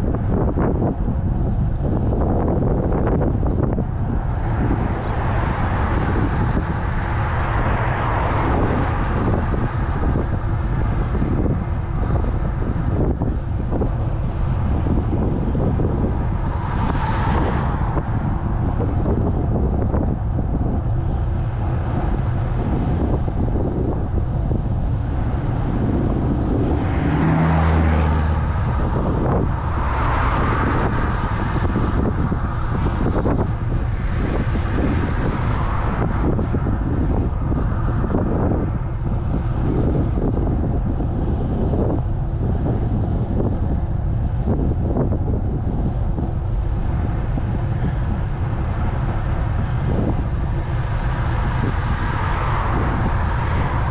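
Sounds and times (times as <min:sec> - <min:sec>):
cars passing: 0:00.0 - 0:53.9
wind rush on microphone: 0:00.0 - 0:53.9.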